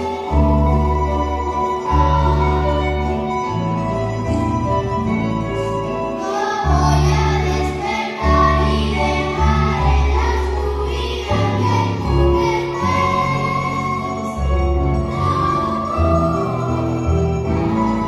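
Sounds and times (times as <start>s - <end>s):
children singing: 0.0s - 3.7s, 6.0s - 18.0s.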